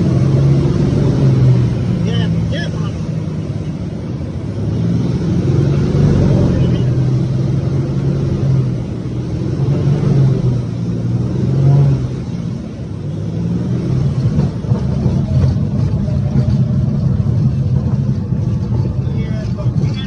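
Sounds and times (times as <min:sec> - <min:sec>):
light aircraft engine droning: 0:00.0 - 0:11.4, 0:12.0 - 0:20.0.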